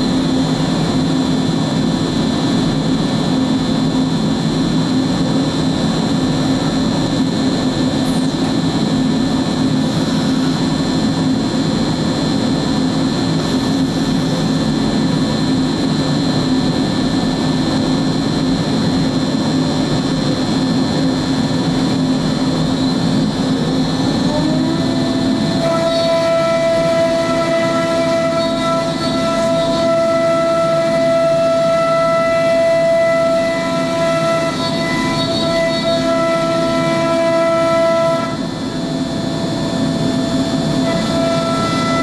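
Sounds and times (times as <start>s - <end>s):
cnc router droning with whine: 0.0s - 42.0s
spindle spinning up whine: 0.0s - 42.0s.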